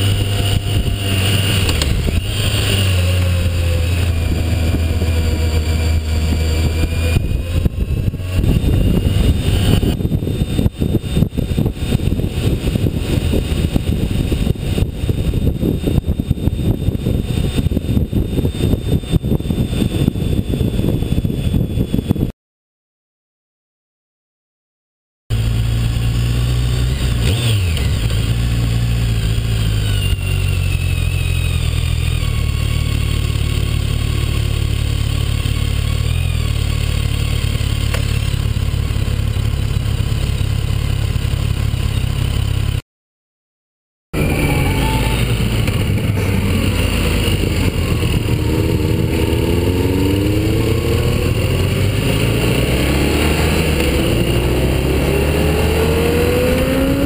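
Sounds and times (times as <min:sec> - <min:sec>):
motorcycle engine running: 0:00.0 - 0:22.3, 0:25.3 - 0:42.8, 0:44.2 - 0:57.0.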